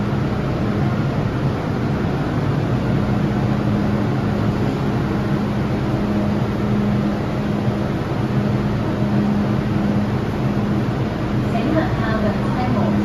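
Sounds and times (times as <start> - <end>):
train air-conditioning hum: 0.0 - 13.0.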